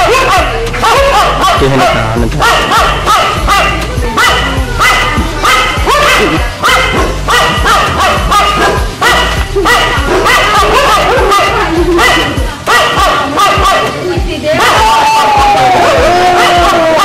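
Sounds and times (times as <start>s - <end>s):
background music with steady beat: 0.0s - 17.0s
dogs barking: 0.0s - 17.0s.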